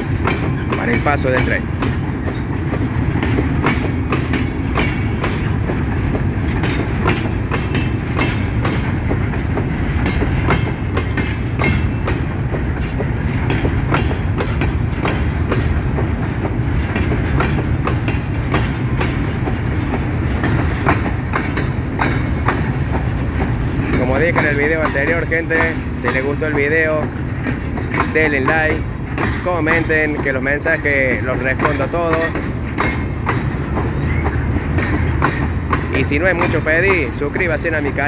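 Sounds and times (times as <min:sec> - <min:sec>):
train wheels rumbling on rail: 0:00.0 - 0:38.0
wheels clacking over rail joints: 0:00.0 - 0:38.0.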